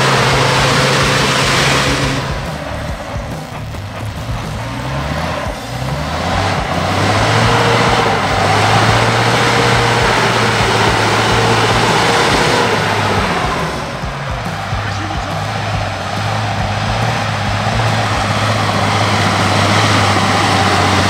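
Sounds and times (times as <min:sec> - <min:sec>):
diesel engine revving hard: 0:00.0 - 0:21.0
tyres churning mud: 0:00.0 - 0:21.0.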